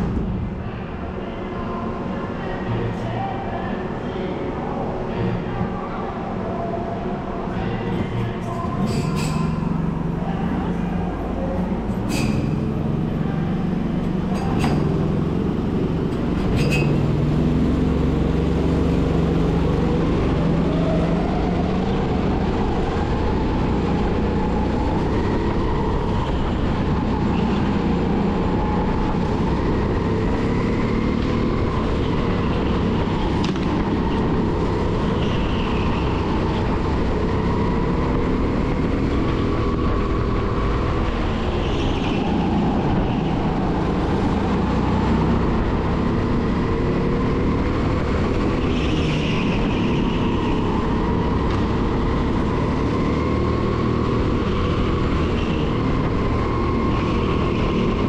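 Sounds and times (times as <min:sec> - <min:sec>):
kart engine running hard: 0:07.6 - 0:58.0.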